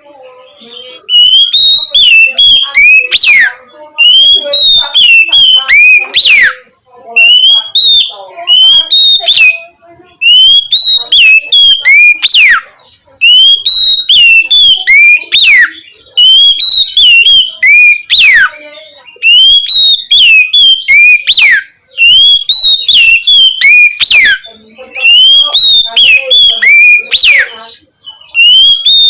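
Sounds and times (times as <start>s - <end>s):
bird whistling song: 0.0s - 29.0s.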